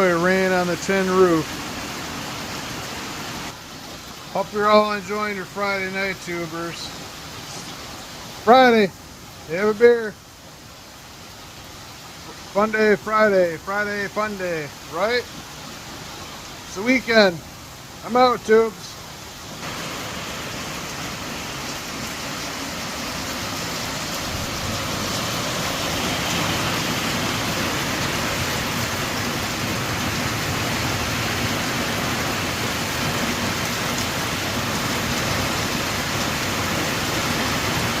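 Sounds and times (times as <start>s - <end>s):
heavy rain on a tin roof: 0.0s - 38.0s.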